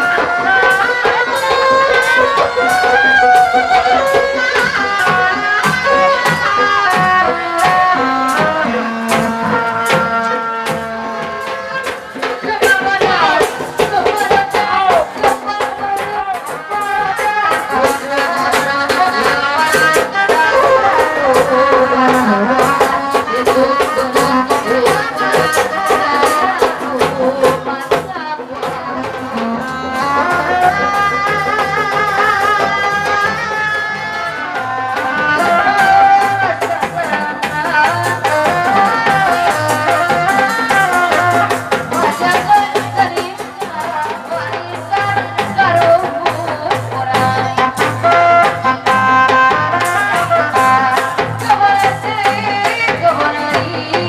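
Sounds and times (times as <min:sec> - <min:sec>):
folk melody instrument: 0:00.0 - 0:54.0
hand drum strokes: 0:00.0 - 0:54.0.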